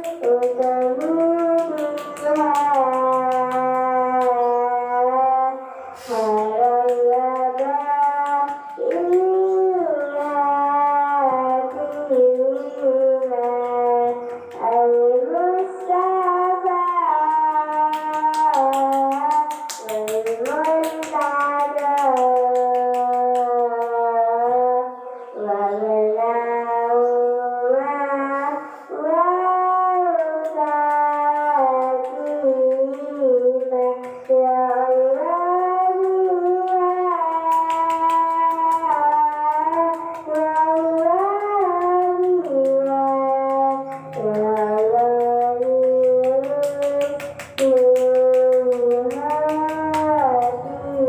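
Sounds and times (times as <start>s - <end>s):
person chanting melodically: 0.0s - 51.0s.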